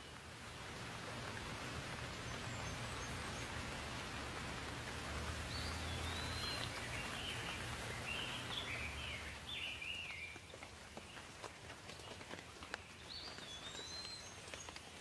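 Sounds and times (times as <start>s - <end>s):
rain pouring: 0.0s - 15.0s
songbird singing: 1.4s - 15.0s.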